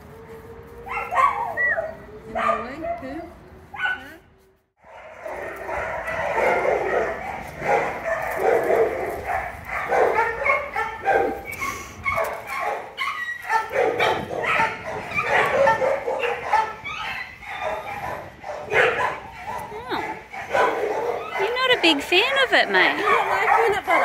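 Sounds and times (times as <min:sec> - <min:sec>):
dogs barking and yipping: 0:00.0 - 0:04.2, 0:04.8 - 0:24.0.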